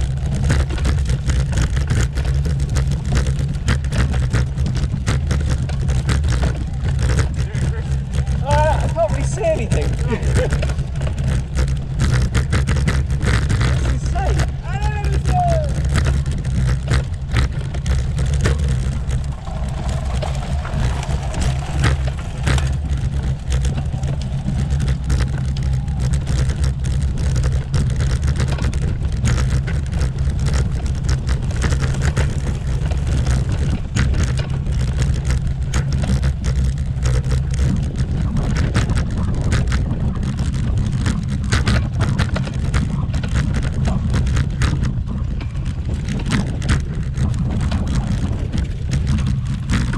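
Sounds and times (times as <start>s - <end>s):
bicycle rattling over cobblestones: 0.0s - 49.9s.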